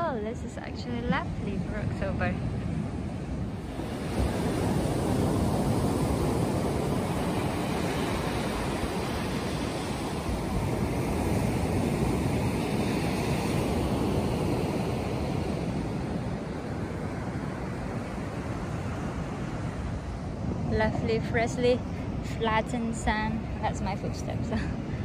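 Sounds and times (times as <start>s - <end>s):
waves washing up a beach: 0.0s - 25.0s
wind buffeting microphone: 0.0s - 25.0s.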